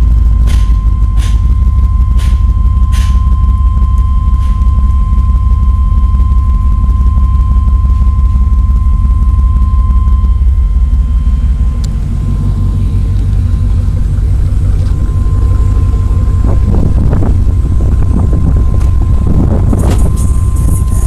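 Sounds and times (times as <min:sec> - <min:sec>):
subwoofers pounding deep bass: 0:00.0 - 0:21.0.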